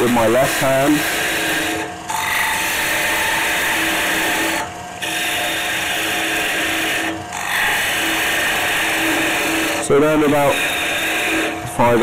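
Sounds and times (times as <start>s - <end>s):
lathe parting tool hissing cut: 0.0s - 12.0s.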